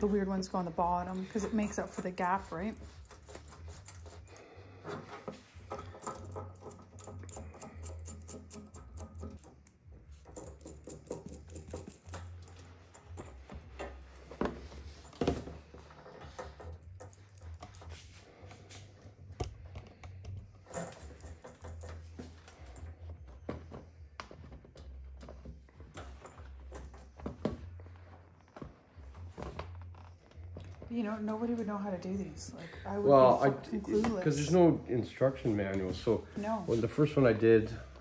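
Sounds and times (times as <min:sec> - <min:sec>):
faint music: 0:00.0 - 0:38.0.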